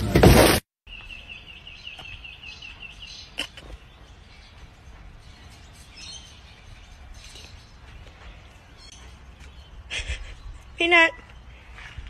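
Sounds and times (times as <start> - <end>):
small bird chirping: 0.9 - 11.7.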